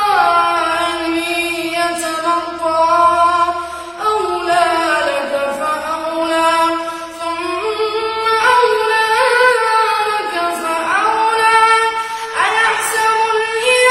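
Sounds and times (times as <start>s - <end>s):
person reciting melodically: 0.0s - 13.9s.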